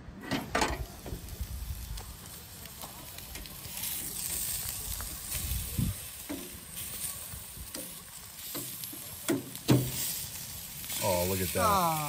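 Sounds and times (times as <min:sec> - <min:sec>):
meat sizzling on a grill: 0:00.4 - 0:12.0.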